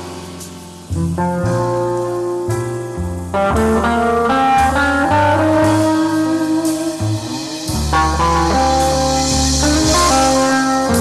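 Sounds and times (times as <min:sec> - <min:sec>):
electric guitar playing jazz chords: 0:00.0 - 0:11.0.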